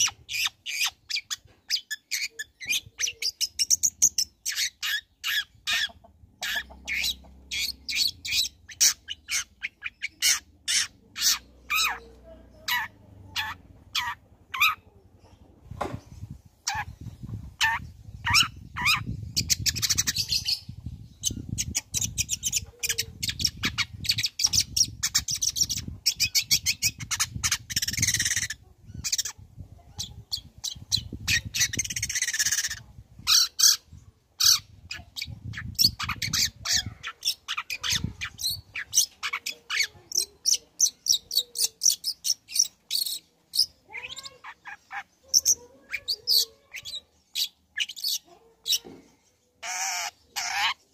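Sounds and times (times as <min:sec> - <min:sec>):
harsh scratchy bird squawking: 0:00.0 - 0:12.1, 0:12.7 - 0:14.9, 0:16.6 - 0:17.0, 0:17.6 - 0:20.6, 0:21.5 - 0:29.4, 0:30.0 - 0:33.8, 0:34.4 - 0:48.9, 0:49.6 - 0:50.9.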